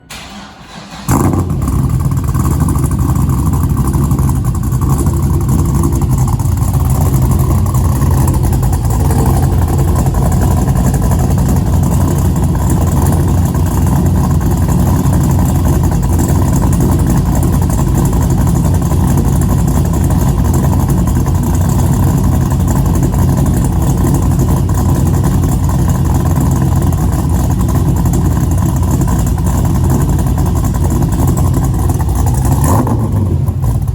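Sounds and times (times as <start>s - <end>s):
car engine exhaust note: 0.9s - 33.9s.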